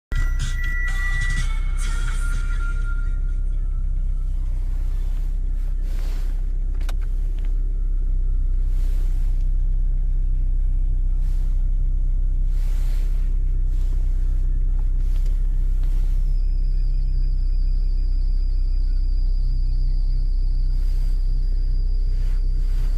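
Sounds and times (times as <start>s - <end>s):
car engine idling: 0.1s - 22.9s.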